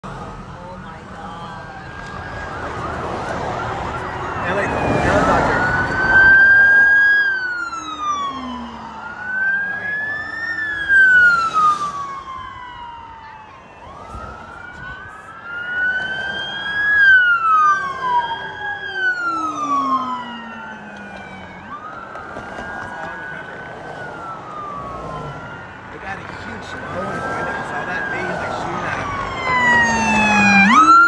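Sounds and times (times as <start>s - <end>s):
police sirens wailing: 0.0s - 31.0s
low siren tone sliding down: 1.3s - 31.0s.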